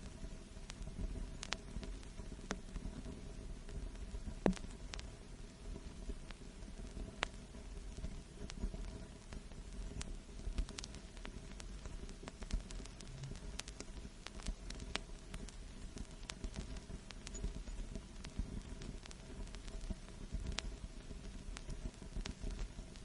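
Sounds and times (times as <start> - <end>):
low rumble and hiss: 0.0 - 23.0
vinyl record crackles and pops: 0.0 - 23.0.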